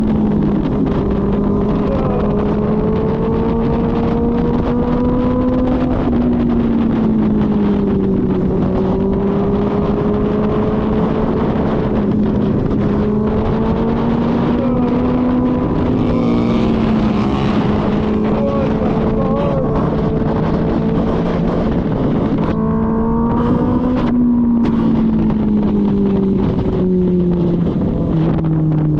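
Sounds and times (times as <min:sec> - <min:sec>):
motorcycle engine running: 0:00.0 - 0:28.9
wind rushing over microphone: 0:00.0 - 0:28.9.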